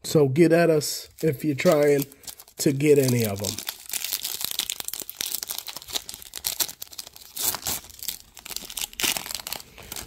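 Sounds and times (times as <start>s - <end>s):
foil wrapper crinkling and tearing: 1.1s - 10.0s.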